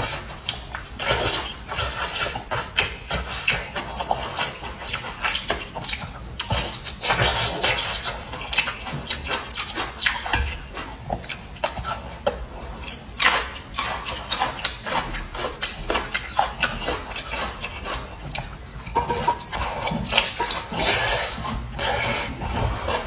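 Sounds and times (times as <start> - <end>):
mouth chewing with wet smacks: 0.0 - 23.0.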